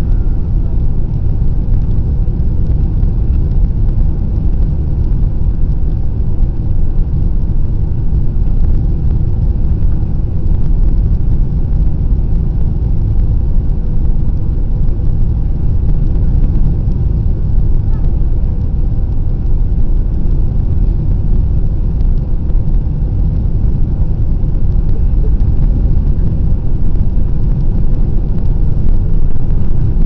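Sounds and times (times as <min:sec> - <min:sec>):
airliner cabin rumble: 0:00.0 - 0:30.0
faint steady tone: 0:00.0 - 0:30.0.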